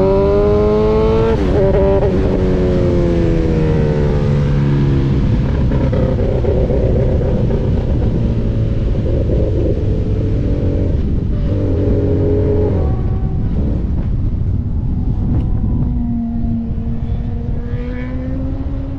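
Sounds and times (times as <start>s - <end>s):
heavy low rumble: 2.0s - 18.9s.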